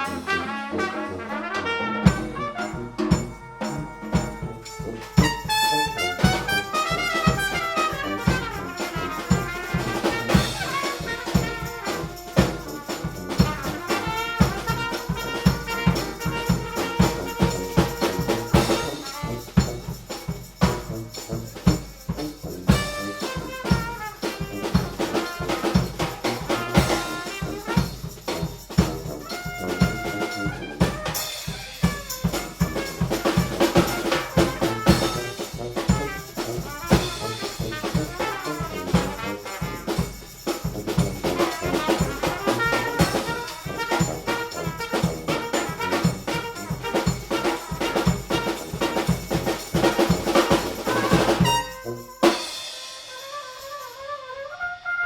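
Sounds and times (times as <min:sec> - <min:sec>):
steady drum beat: 0:00.0 - 0:53.8
trumpets and horns: 0:00.0 - 0:55.0.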